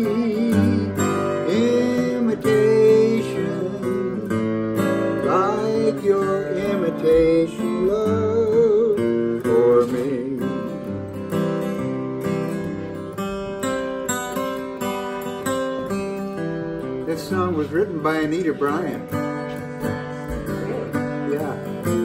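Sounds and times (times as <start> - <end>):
acoustic guitar picking and strumming: 0.0 - 22.0.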